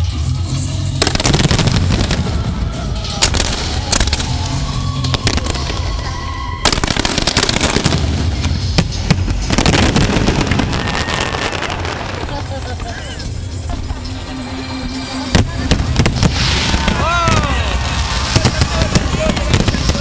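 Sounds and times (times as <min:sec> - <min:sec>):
show music: 0:00.0 - 0:20.0
fireworks crackling and banging: 0:00.8 - 0:20.0.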